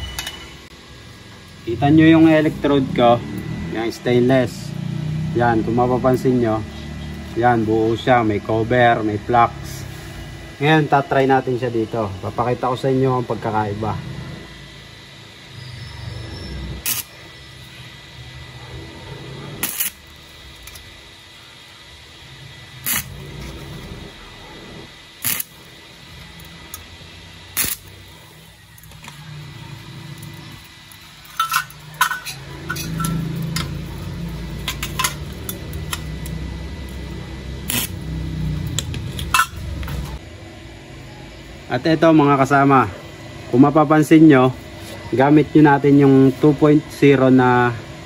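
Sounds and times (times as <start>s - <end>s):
welding arc crackling: 0.0s - 40.2s.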